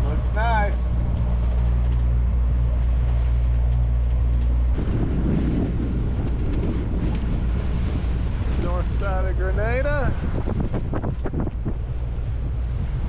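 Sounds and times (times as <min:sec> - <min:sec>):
boat engine running: 0:00.0 - 0:13.0
wind rushing over microphone: 0:00.0 - 0:13.0.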